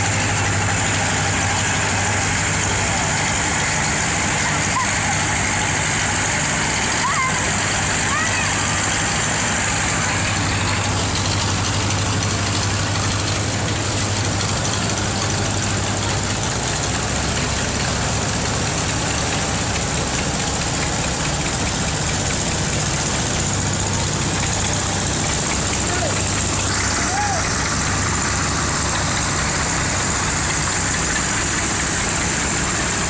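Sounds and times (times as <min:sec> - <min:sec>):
tractor engines idling: 0:00.0 - 0:33.0.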